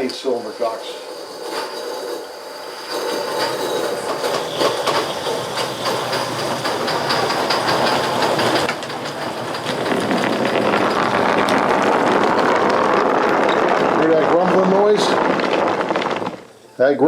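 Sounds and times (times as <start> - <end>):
steam locomotive exhaust chuffs: 0.0 - 17.0
wheels clattering on rail: 0.0 - 17.0.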